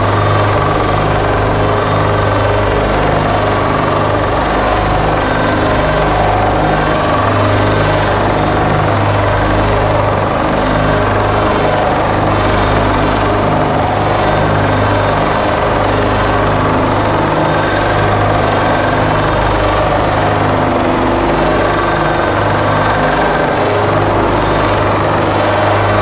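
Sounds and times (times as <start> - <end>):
electronic synthesizer drone: 0.0 - 26.0.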